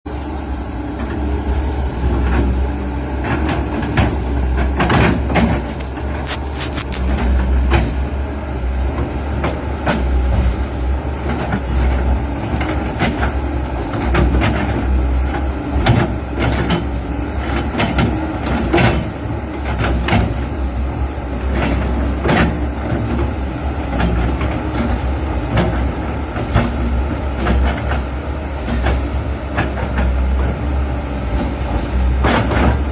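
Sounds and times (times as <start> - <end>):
diesel engine deep rumble: 0.1 - 32.9.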